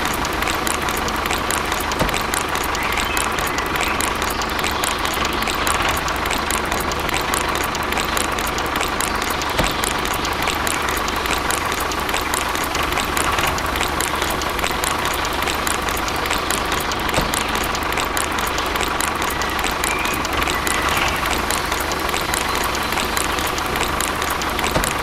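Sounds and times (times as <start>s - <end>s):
small motor whining and ticking: 0.0s - 25.0s.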